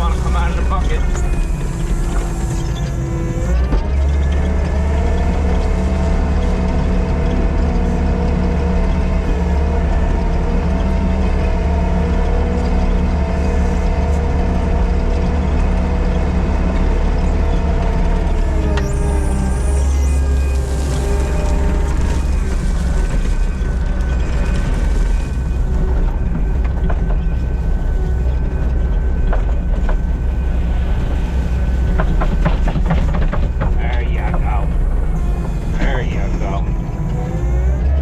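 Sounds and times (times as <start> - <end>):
heavy diesel engine revving: 0.0 - 38.0.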